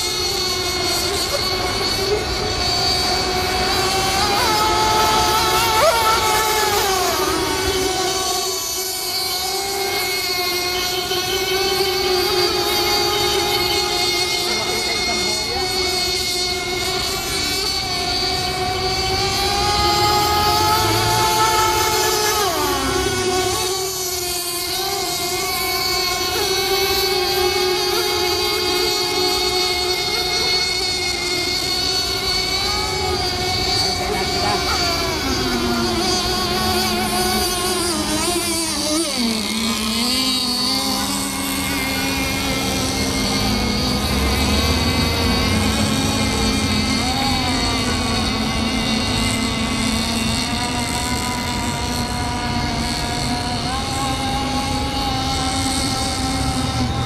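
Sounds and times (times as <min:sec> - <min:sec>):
model boat motor whining: 0:00.0 - 0:57.0.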